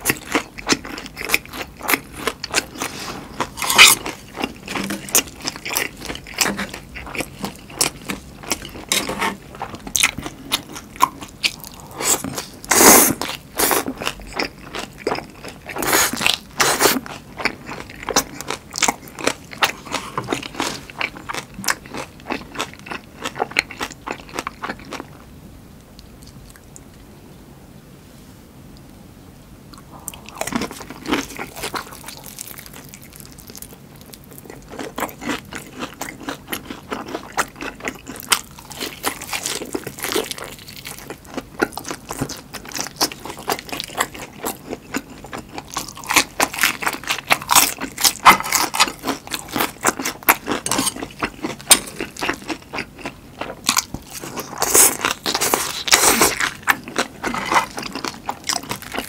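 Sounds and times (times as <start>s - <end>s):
crunching and chewing fried food: 0.0s - 27.0s, 29.7s - 59.0s.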